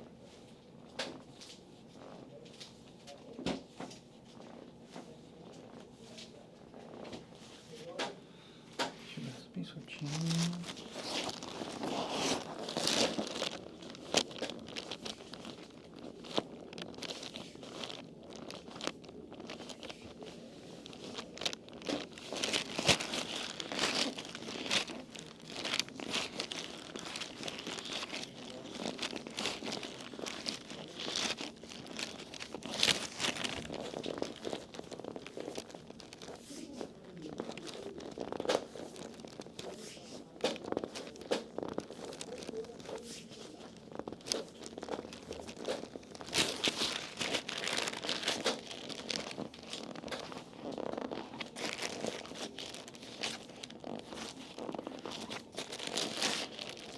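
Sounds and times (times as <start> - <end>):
hands rustling over skin and fabric: 9.2 - 56.9
sharp crackles: 9.2 - 56.9.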